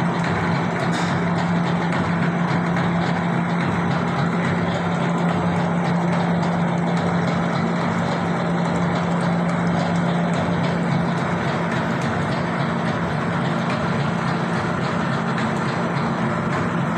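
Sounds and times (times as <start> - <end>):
machine motor hum: 0.0 - 16.9.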